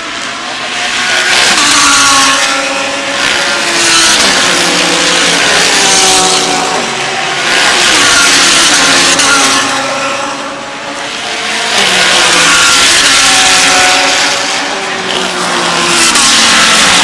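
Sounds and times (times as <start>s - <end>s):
race cars passing at high revs: 0.0s - 17.0s.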